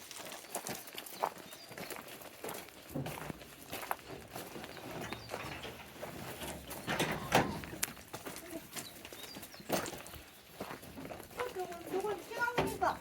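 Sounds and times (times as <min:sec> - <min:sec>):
goat hooves stepping: 0:00.0 - 0:13.0.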